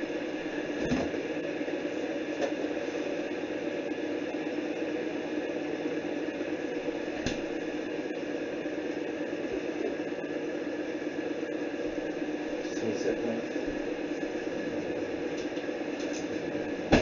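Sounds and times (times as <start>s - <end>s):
kettle heating water: 0.0s - 17.0s.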